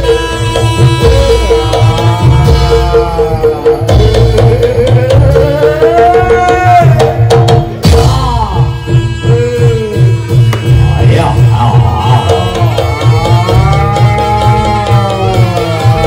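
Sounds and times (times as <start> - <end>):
hand drums beating hard: 0.0 - 16.0.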